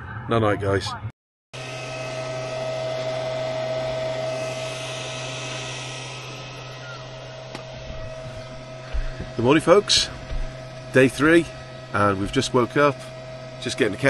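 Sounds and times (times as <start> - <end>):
kettle heating water: 1.6 - 14.0
power station hum: 1.6 - 14.0.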